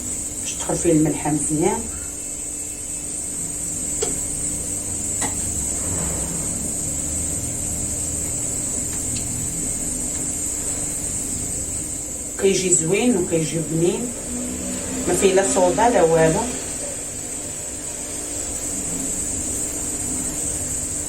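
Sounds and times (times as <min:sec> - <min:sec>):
high even whine: 0:00.0 - 0:21.0
low mechanical hum: 0:00.0 - 0:21.0.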